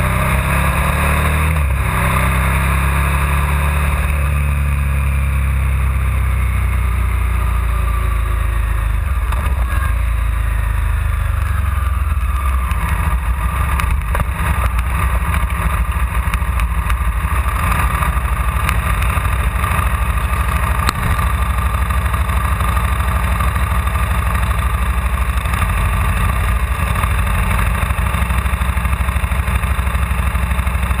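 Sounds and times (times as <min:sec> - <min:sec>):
motorcycle engine idling: 0:04.0 - 0:31.0.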